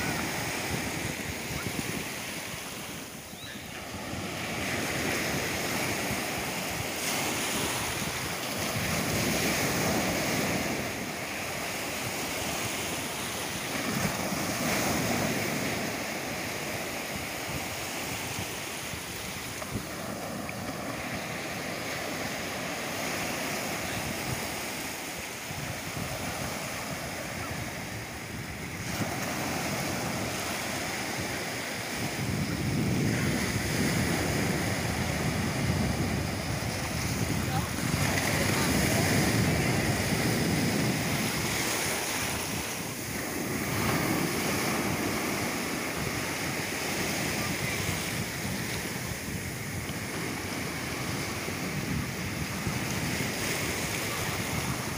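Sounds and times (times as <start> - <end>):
small waves breaking on beach: 0.0 - 54.9.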